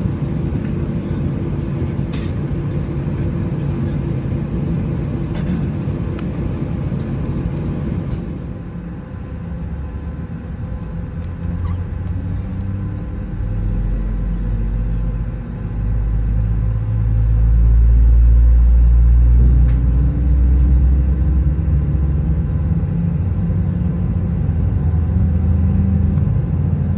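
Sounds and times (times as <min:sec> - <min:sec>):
airplane cabin engine rumble: 0:00.0 - 0:26.9.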